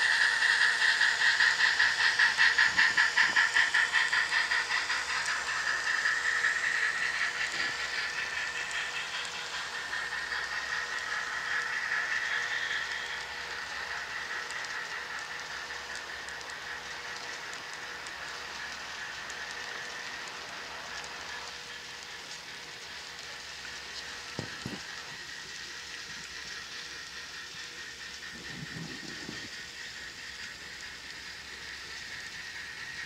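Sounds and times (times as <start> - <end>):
model train rolling on track: 0.0 - 33.0
small clicks from train cars: 0.0 - 33.0.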